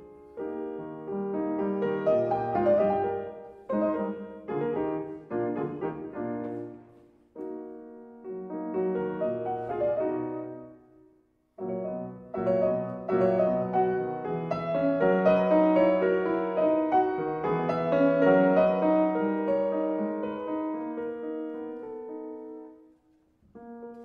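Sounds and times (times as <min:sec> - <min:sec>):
slow piano piece: 0:00.0 - 0:24.0.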